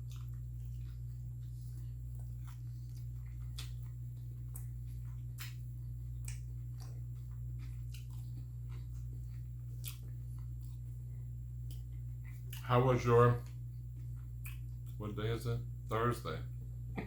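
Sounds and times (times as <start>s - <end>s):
person chewing food: 0.0s - 15.0s
low hum: 0.0s - 17.0s.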